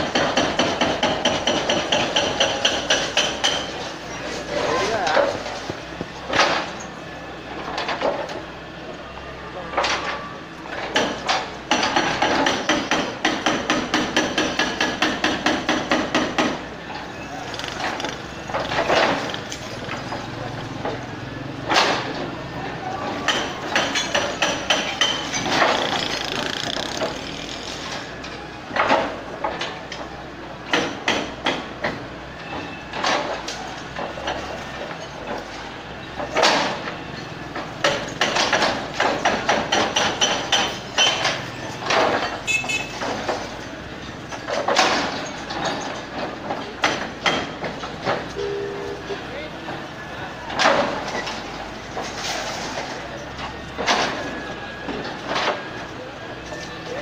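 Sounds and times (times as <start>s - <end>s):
excavator engine running: 0.0s - 30.7s, 33.3s - 57.0s.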